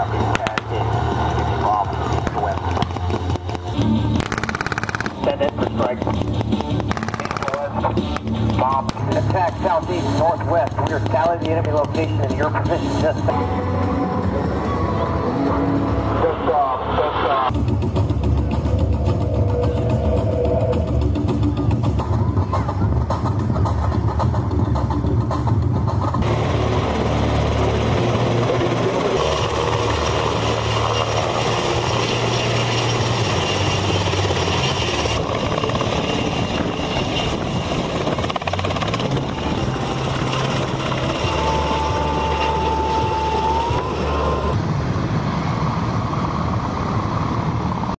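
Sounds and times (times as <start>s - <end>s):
helicopter rotor and turbine: 0.0s - 16.7s, 17.4s - 48.0s.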